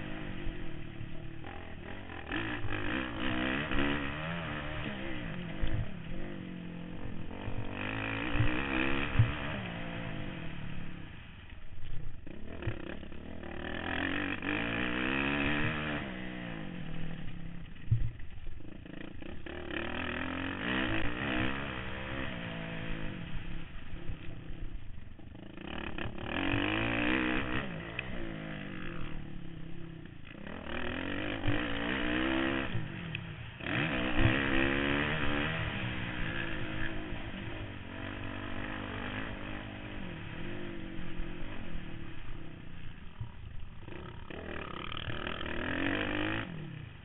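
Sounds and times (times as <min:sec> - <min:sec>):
motocross engine revving: 0:00.0 - 0:47.0.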